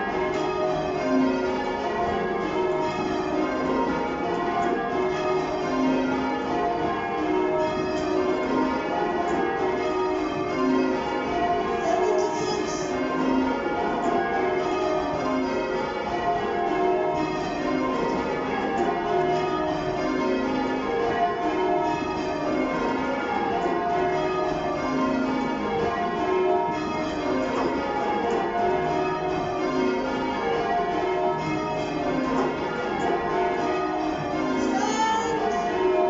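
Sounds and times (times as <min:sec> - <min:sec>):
church bells change ringing: 0:00.0 - 0:36.0.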